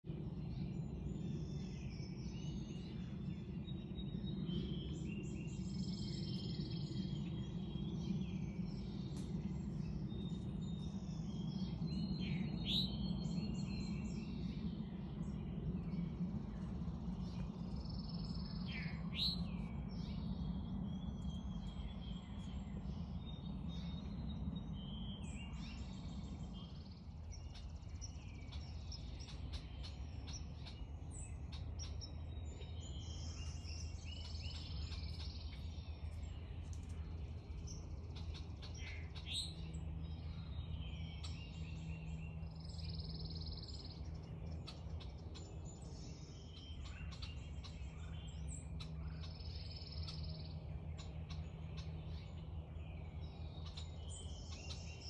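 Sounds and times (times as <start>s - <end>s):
birds chirping and singing: 0.1s - 55.0s
low background rumble: 0.1s - 55.0s.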